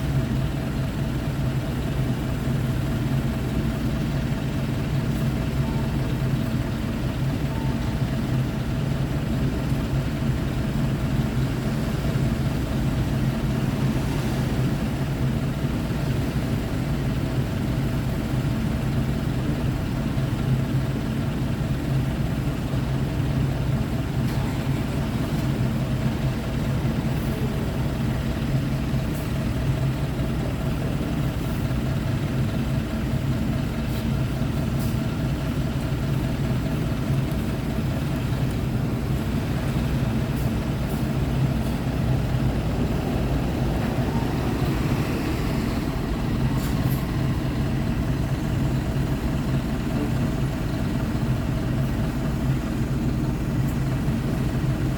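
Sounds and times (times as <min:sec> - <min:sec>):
bus diesel engine idling: 0:00.0 - 0:54.9.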